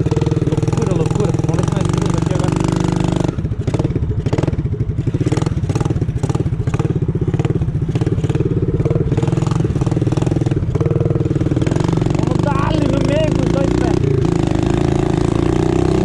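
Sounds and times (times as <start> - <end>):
motorcycle engine exhaust beat: 0.0 - 16.0.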